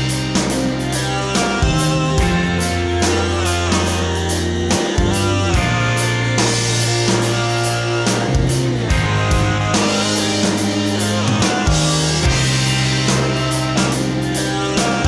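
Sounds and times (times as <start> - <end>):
rock music with drums: 0.0 - 15.0.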